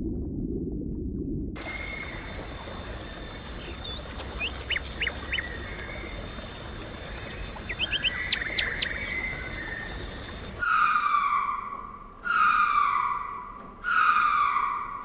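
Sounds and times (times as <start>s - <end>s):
bird chirping: 1.6s - 15.0s
outdoor background hiss: 1.6s - 15.0s.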